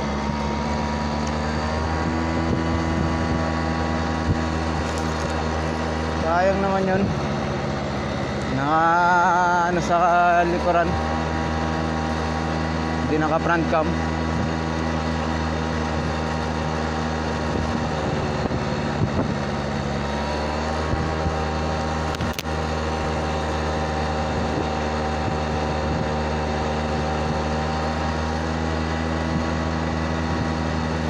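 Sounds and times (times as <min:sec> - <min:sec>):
small motorbike engine running: 0:00.0 - 0:31.0.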